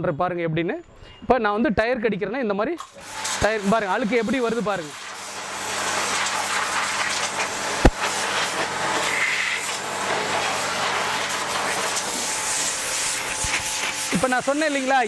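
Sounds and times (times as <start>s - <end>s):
pressure washer motor hum: 2.8s - 15.0s
pressure washer spraying tyre: 2.8s - 15.0s.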